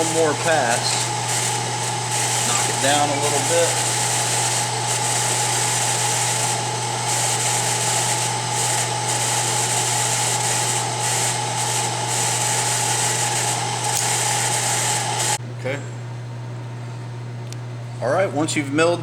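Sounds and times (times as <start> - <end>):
end mill cutting whine: 0.0 - 15.4
milling machine motor hum: 0.0 - 15.4.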